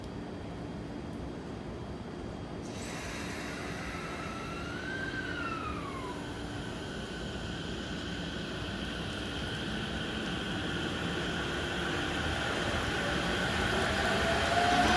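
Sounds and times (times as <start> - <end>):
electric train motor whine: 2.7 - 14.9.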